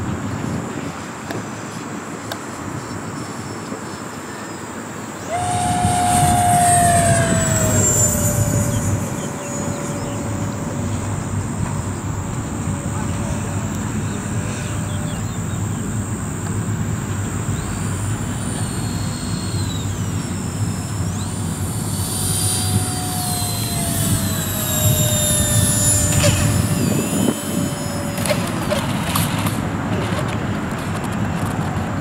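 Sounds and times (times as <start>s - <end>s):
electric ducted fans whining: 0.0s - 32.0s.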